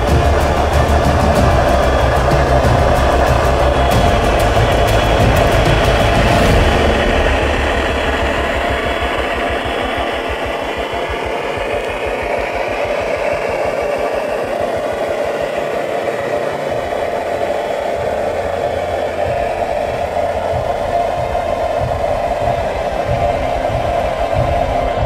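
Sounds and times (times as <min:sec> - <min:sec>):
water pump pulsing: 0:00.0 - 0:25.0.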